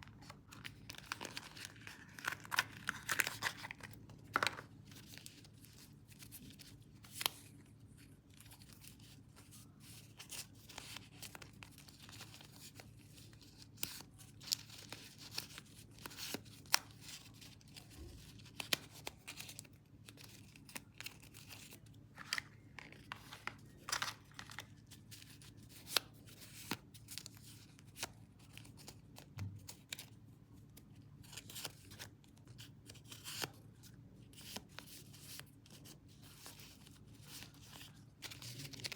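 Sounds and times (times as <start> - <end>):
paper crackling and rustling: 0.0 - 33.6, 34.3 - 38.9.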